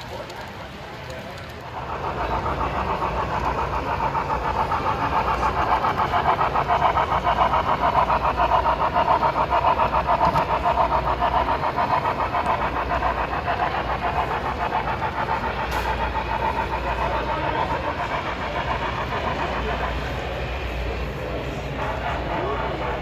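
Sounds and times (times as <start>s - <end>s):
model locomotive engine sound: 0.0s - 23.0s.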